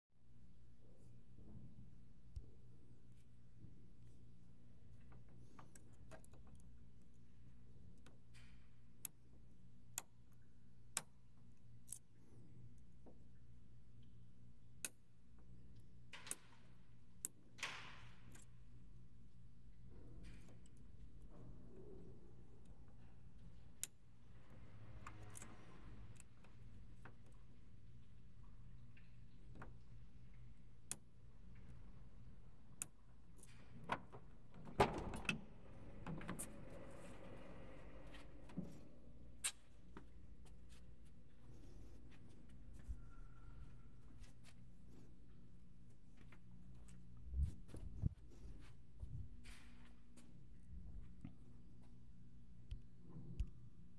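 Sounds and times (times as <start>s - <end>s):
steady low hum: 0.2s - 53.9s.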